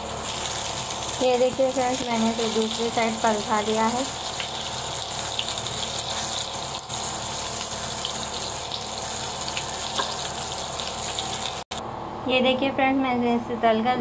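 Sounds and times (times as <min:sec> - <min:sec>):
food sizzling in oil: 0:00.0 - 0:11.8.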